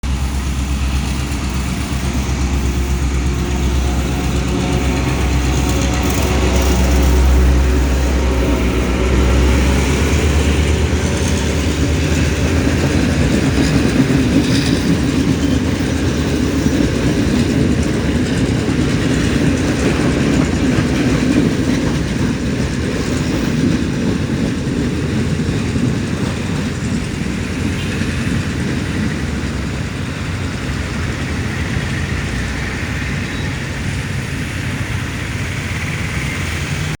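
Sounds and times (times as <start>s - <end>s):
diesel locomotive engine droning: 0.0s - 37.0s
train rumbling along track: 0.0s - 37.0s.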